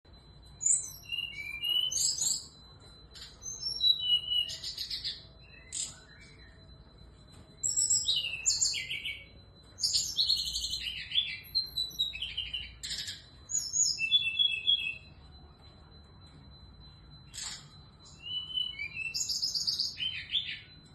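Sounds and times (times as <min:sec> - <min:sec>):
bird chirps and trills: 0:00.1 - 0:07.0, 0:07.6 - 0:15.5, 0:16.9 - 0:20.9
faint high-pitched tone: 0:00.1 - 0:20.9.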